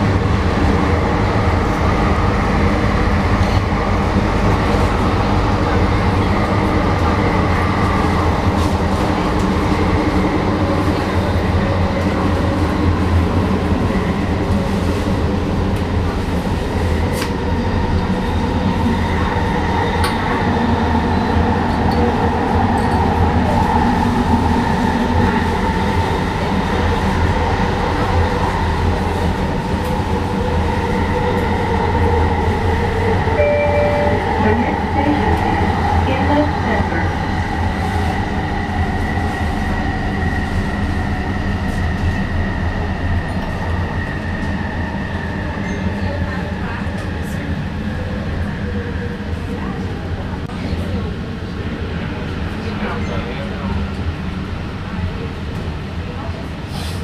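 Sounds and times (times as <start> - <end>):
train rumbling with high whine: 0.0 - 57.0.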